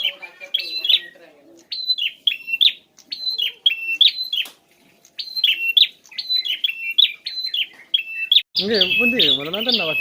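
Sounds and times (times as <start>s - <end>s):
bird chirping high sharp notes: 0.0s - 4.5s, 5.1s - 10.0s.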